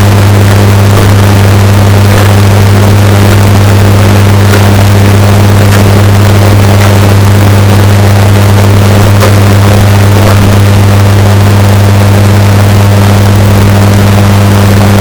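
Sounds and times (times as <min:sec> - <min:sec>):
washing machine distorted hum: 0:00.0 - 0:15.0.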